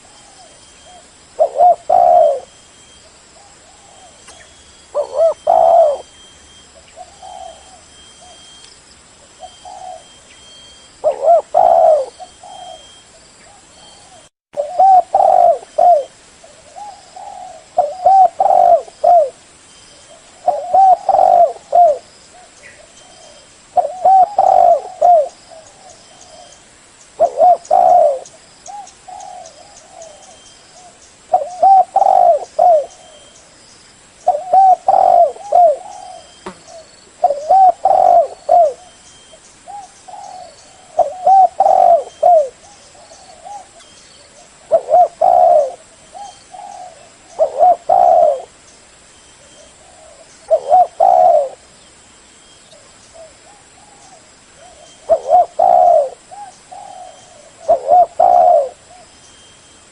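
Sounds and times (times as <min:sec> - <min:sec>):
dove cooing: 0:00.0 - 0:08.6, 0:09.4 - 0:19.4, 0:20.1 - 0:26.6, 0:27.2 - 0:33.4, 0:34.3 - 0:39.0, 0:39.7 - 0:48.6, 0:49.4 - 0:51.7, 0:52.8 - 0:59.1.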